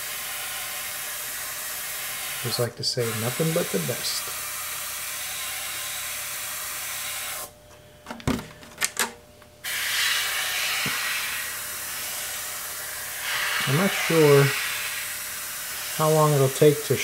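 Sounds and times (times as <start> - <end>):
airbrush spraying hiss: 0.0 - 7.5, 9.6 - 17.0.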